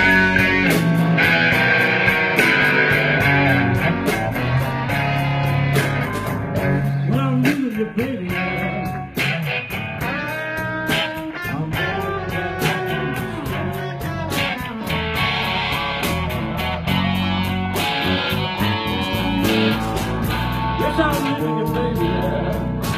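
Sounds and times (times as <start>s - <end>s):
bass: 0.0s - 22.9s
drums: 0.0s - 22.9s
electric guitar lead: 0.0s - 22.9s.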